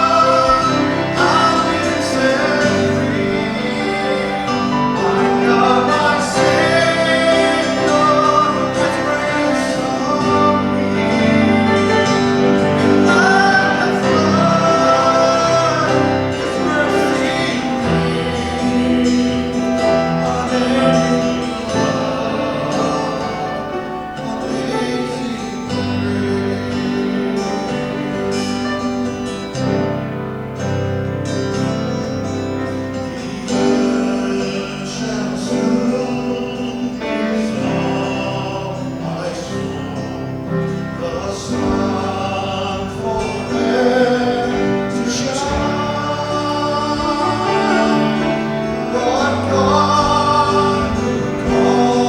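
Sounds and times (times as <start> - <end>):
worship song with instruments: 0.0 - 52.0.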